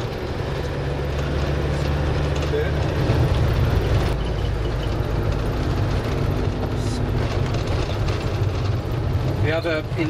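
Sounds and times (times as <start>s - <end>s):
minibus engine drone: 0.0s - 10.0s
road rumble: 0.0s - 10.0s.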